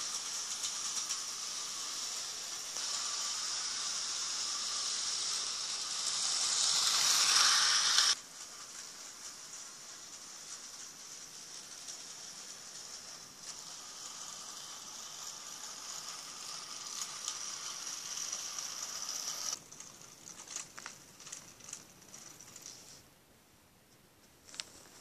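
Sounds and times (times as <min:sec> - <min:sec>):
model train motor whirring: 0:00.0 - 0:22.8.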